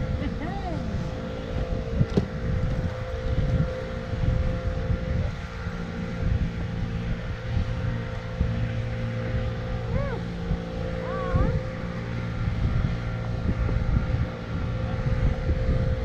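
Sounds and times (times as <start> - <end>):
steady motor hum: 0.0 - 16.0
wind buffeting microphone: 0.0 - 16.0.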